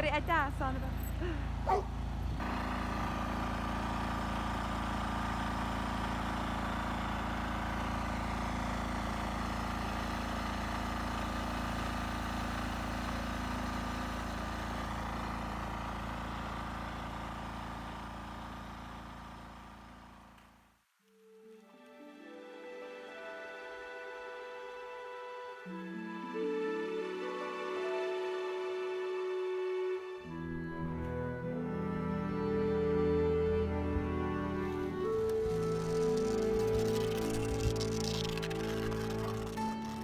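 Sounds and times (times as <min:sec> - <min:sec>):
vehicle engine running steadily: 0:00.0 - 0:20.8, 0:27.8 - 0:40.0.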